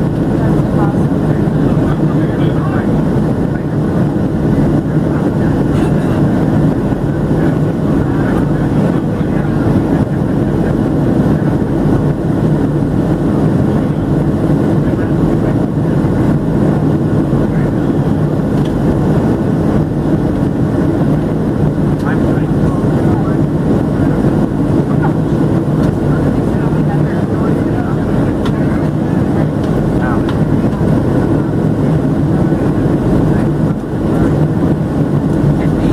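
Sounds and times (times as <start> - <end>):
airplane cabin engine rumble: 0.0 - 35.9.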